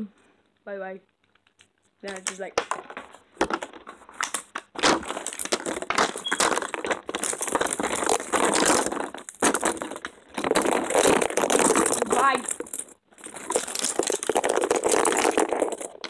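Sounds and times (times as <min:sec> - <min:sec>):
crinkling handling noise: 0:00.4 - 0:16.0.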